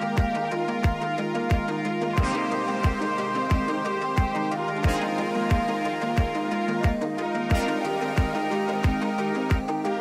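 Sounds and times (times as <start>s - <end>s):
low kick drum beat: 0.1s - 9.8s.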